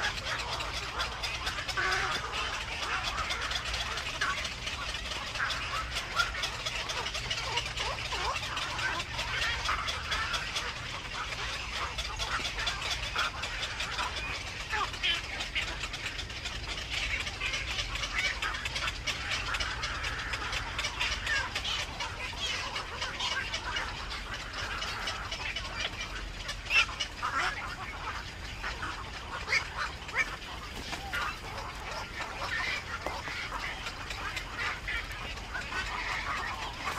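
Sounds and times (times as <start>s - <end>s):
herons chattering calls: 0.0s - 36.9s.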